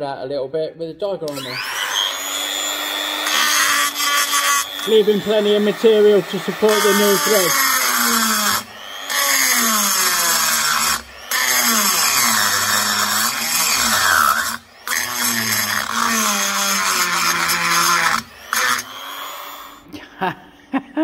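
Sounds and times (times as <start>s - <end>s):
die grinder cutting metal: 1.3s - 19.8s.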